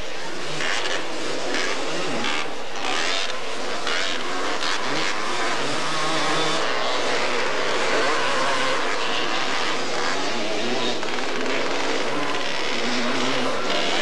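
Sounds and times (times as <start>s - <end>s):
atv engines revving: 0.0s - 14.0s.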